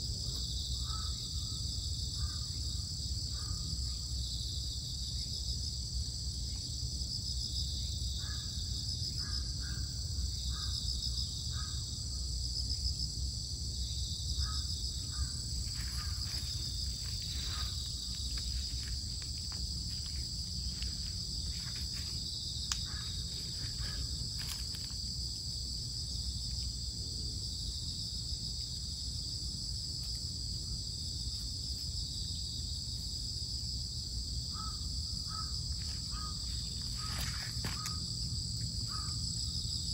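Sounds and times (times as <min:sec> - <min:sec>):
high pulsing insect chorus: 0:00.0 - 0:39.9.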